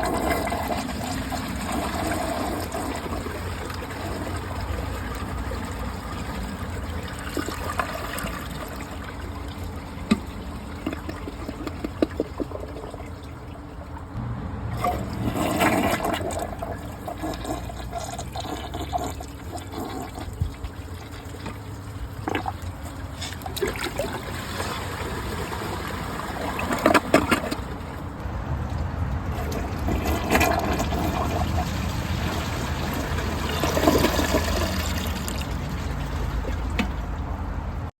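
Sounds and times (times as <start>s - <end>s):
toilet refilling water: 0.0s - 37.9s.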